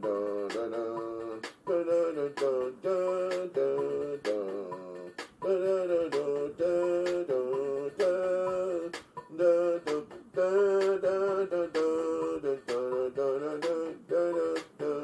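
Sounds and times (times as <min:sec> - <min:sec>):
light click-like beat: 0:00.0 - 0:15.0
wavering melody line: 0:00.0 - 0:15.0.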